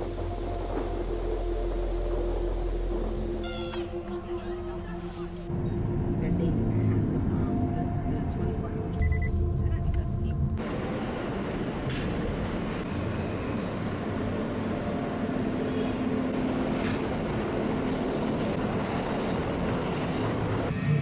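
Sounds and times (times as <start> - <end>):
subway car rumbling and rattling: 0.0 - 21.0.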